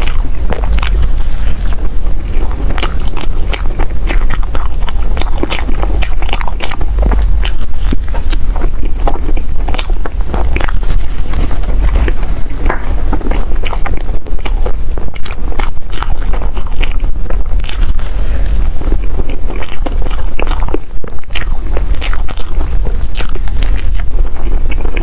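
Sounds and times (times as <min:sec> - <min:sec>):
biting and chewing: 0:00.0 - 0:25.0
low rumble: 0:00.0 - 0:25.0.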